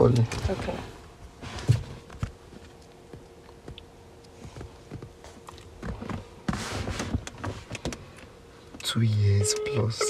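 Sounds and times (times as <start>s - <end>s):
low car interior hum: 0.0s - 10.0s.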